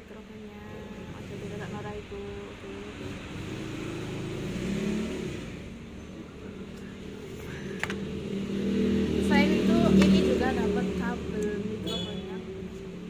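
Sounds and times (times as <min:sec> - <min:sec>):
vehicle engine revving: 0:00.6 - 0:13.0.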